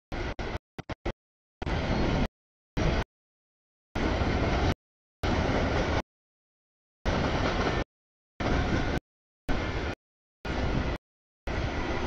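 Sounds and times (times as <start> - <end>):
freight train noise: 0.1 - 3.1, 4.0 - 6.0, 7.1 - 12.0.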